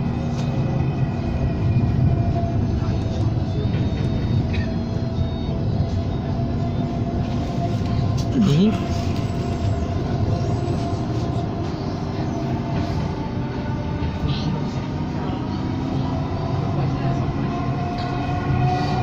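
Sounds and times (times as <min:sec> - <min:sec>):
light-rail car rumble: 0:00.0 - 0:19.0.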